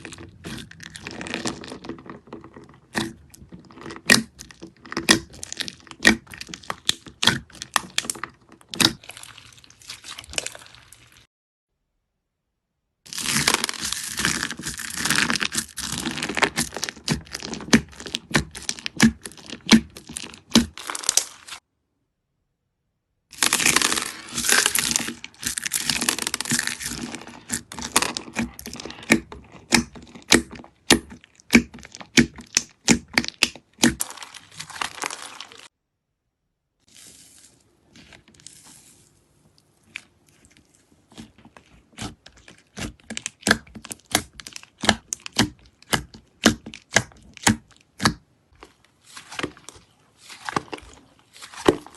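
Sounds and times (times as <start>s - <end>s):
slime crackling and popping: 0.0s - 11.3s, 13.1s - 21.6s, 23.3s - 35.7s, 39.7s - 51.9s.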